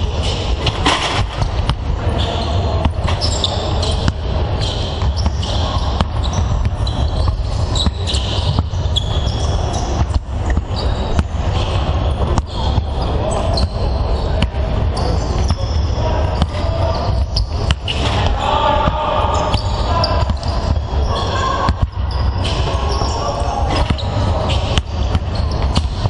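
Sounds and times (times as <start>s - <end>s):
basketballs bouncing on wooden court: 0.0s - 26.0s.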